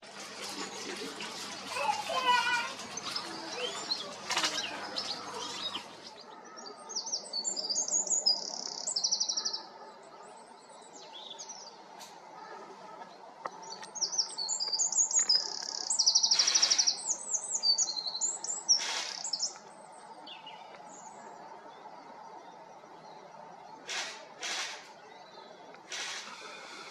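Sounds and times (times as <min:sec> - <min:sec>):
small songbird singing: 0:01.8 - 0:12.0, 0:12.9 - 0:26.9.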